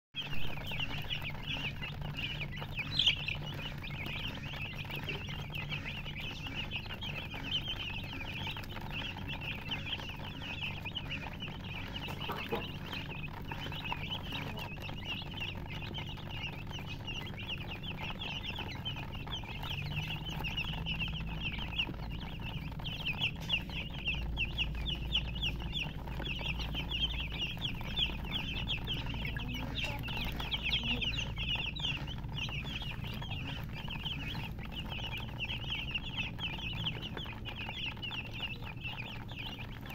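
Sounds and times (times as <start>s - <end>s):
baby chicks peeping: 0.1s - 39.9s
low rumble: 0.2s - 39.9s.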